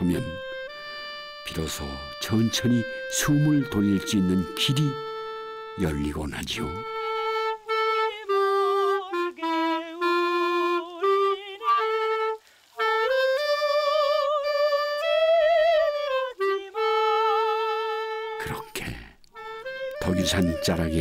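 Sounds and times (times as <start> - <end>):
clarinet playing slow melody: 0.0 - 21.0.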